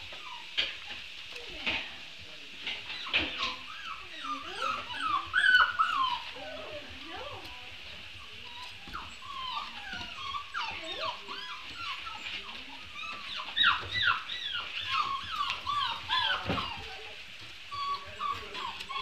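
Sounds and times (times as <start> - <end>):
puppies whimpering and yipping: 0.0 - 1.0, 2.8 - 19.0.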